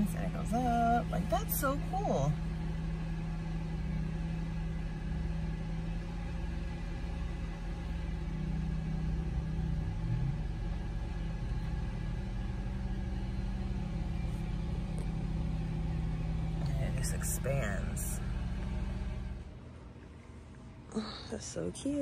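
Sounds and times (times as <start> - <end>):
car motor humming: 0.0 - 21.2.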